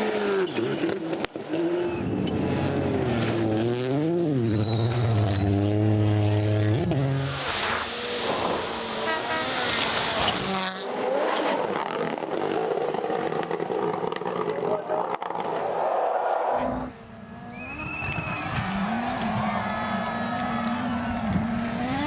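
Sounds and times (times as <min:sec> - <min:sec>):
gravel and tyre noise: 0:00.0 - 0:22.0
rally car engines revving: 0:00.0 - 0:22.0.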